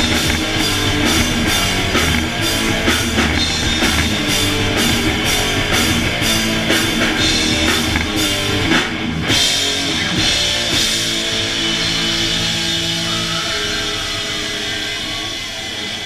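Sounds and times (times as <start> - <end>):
distorted electric guitars: 0.0 - 16.0
drum kit and cymbal hits: 0.0 - 16.0.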